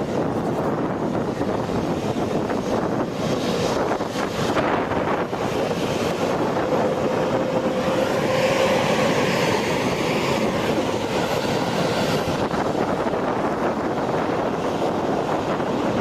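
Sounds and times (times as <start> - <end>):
jet engine hiss: 0.0 - 16.0
jet engines roaring: 0.0 - 16.0.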